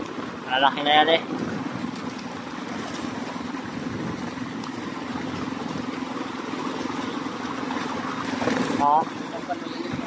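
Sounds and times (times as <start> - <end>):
fish splashing water: 1.2 - 10.0.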